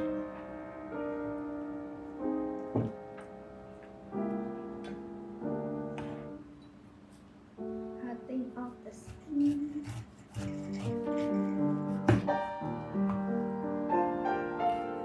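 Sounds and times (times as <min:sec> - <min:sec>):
slow piano chords: 0:00.0 - 0:09.2, 0:10.9 - 0:15.0.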